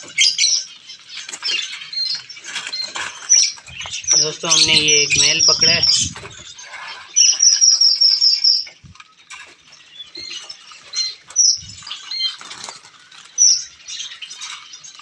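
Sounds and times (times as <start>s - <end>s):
wing flutters and rustling: 0.0s - 7.9s, 8.7s - 15.0s
small birds chirping: 0.0s - 15.0s.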